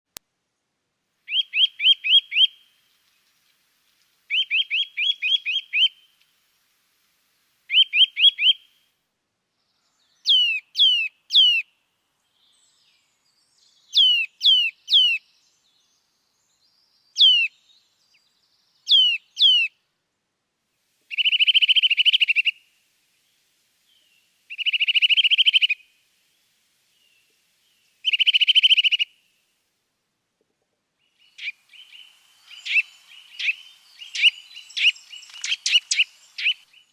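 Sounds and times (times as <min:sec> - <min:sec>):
songbirds chirping: 0:00.4 - 0:36.9.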